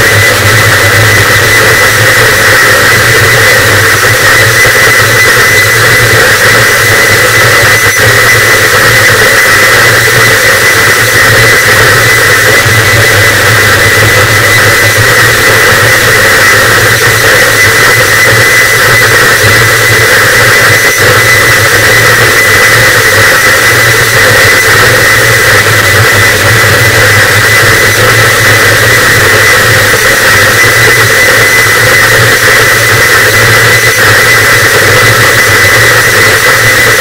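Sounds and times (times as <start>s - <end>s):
heavily distorted static: 0.0s - 37.0s.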